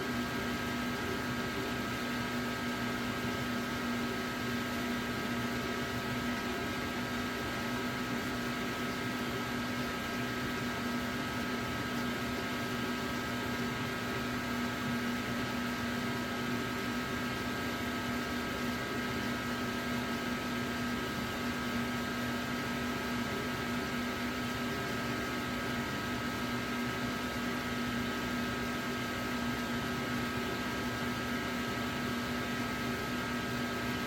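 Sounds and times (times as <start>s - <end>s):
machine hum with whining tones: 0.0s - 34.0s.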